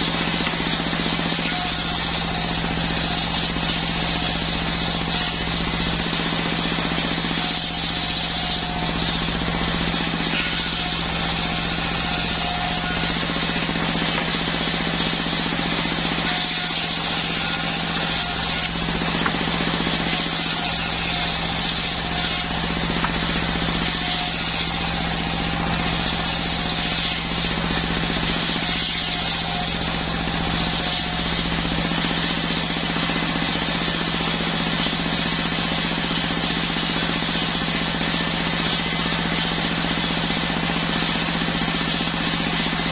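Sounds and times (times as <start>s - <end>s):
circular saw sawing wood: 0.0s - 42.9s
machine hum: 0.0s - 42.9s.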